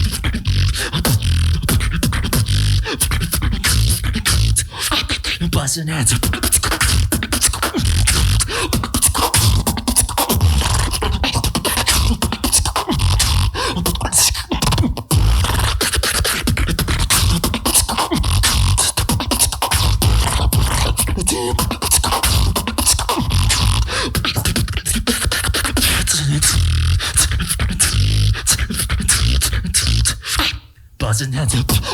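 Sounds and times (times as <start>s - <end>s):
beatboxing: 0.0s - 31.9s.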